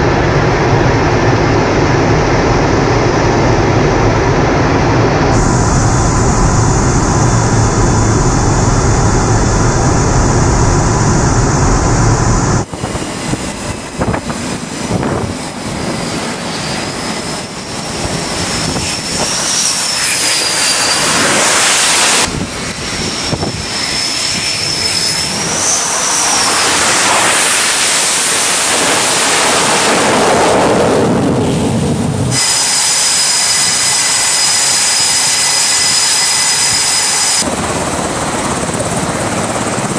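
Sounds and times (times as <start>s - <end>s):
heavy jet drone: 0.0s - 39.9s
jet engines whining: 0.0s - 39.9s.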